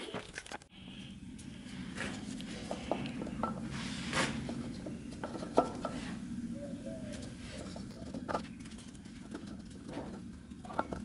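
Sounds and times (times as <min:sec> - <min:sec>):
steady low hum: 0:00.7 - 0:11.0.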